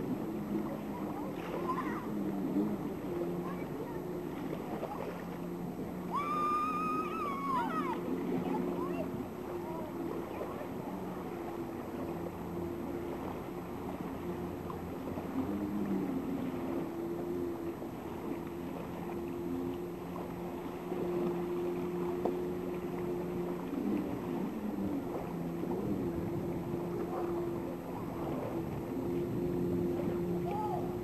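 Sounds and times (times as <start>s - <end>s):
steady low drone: 0.0s - 31.0s
water noise: 0.0s - 31.0s
wind: 0.0s - 31.0s.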